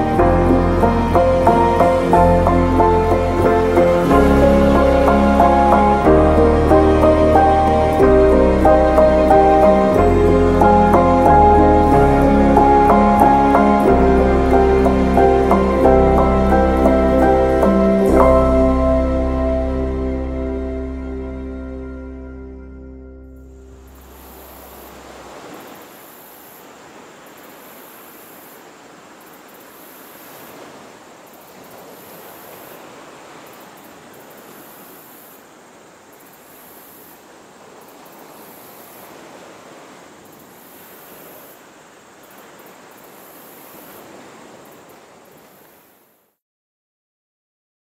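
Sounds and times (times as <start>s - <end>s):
sea surf washing in: 0.0s - 20.9s, 23.5s - 46.2s.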